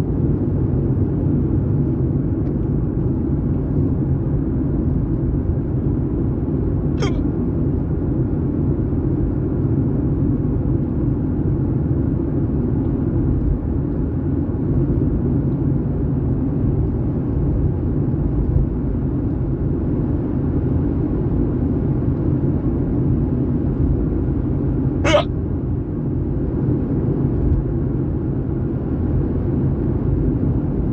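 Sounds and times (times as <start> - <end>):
car low rumble: 0.0 - 30.9.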